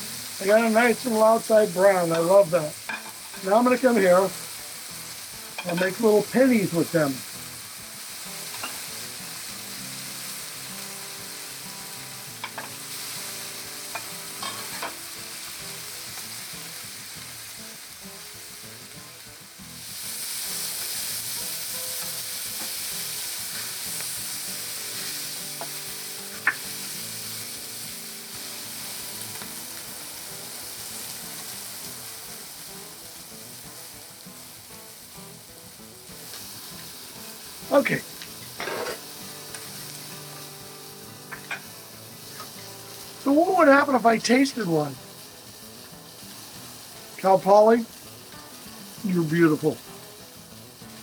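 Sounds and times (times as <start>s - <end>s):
sausage sizzling in a pan: 0.0s - 51.0s.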